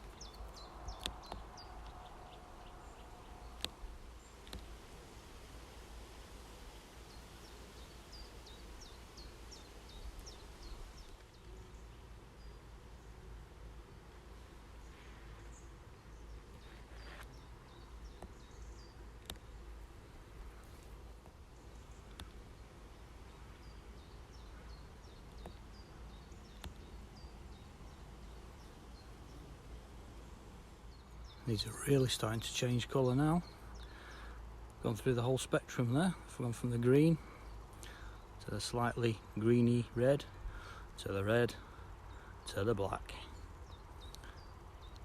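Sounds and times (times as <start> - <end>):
low outdoor rumble: 0.0 - 45.0
songbird chirping: 0.0 - 45.0.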